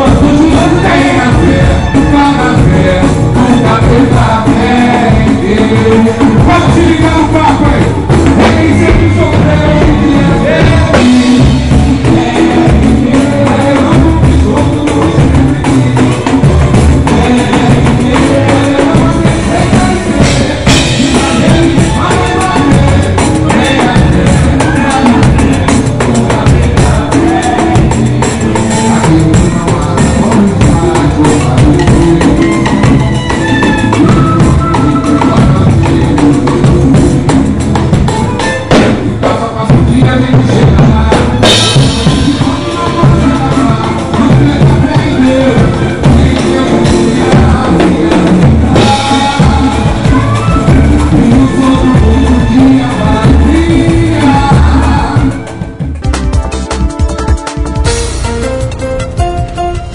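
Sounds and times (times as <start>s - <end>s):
person singing: 0.0s - 58.0s
drum kit samba beat: 0.0s - 59.9s.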